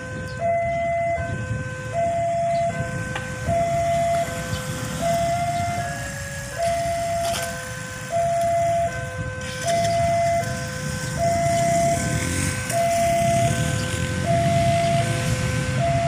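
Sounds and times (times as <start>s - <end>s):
two-tone electronic warning chime: 0.0s - 16.0s.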